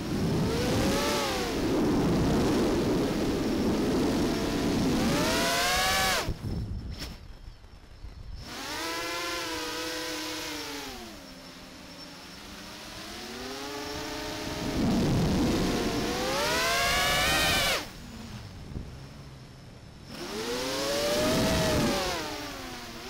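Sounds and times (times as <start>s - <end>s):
drone motors and propellers whining: 0.0s - 23.0s.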